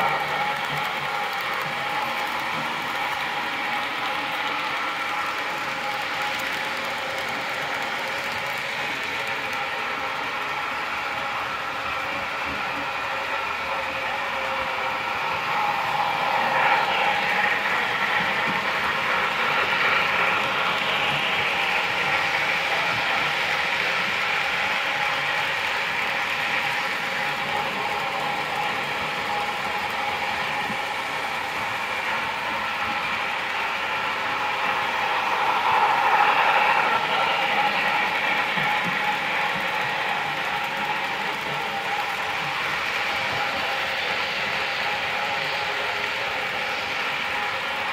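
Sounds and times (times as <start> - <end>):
model trains rattling: 0.0 - 47.9.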